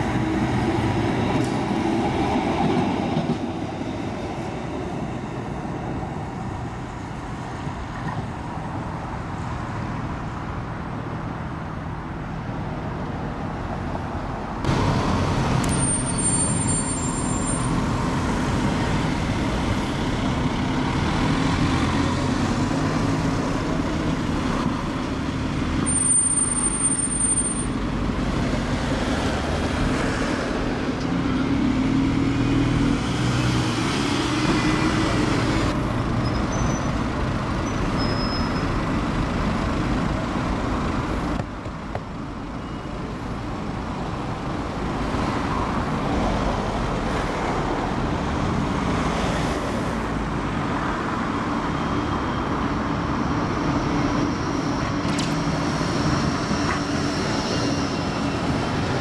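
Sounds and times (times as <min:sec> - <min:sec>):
bus engine pulling away: 0:00.0 - 0:59.0
cars passing in traffic hum: 0:00.0 - 0:59.0.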